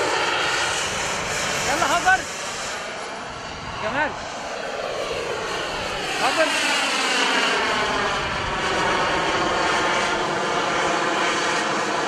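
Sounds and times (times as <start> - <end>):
model jet turbine whine: 0.0 - 12.0.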